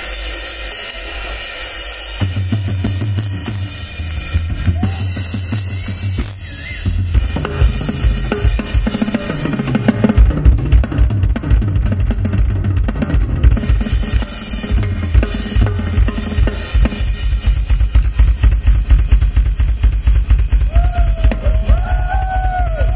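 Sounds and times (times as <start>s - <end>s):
drum fills: 0.0s - 22.9s
rapid bass drum strokes: 0.0s - 22.9s.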